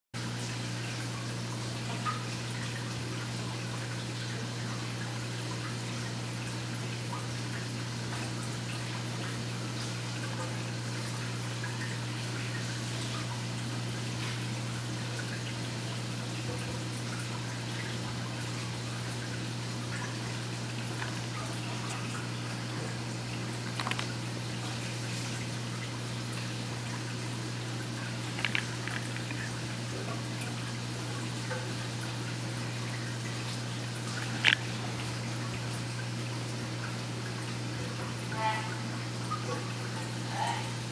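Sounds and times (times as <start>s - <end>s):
aquarium pump hum: 0.2s - 40.9s
trickling water: 0.2s - 40.9s.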